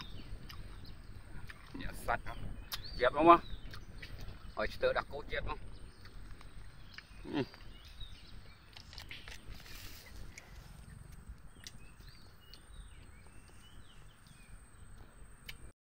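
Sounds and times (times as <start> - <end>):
low wind rumble: 0.0 - 15.7.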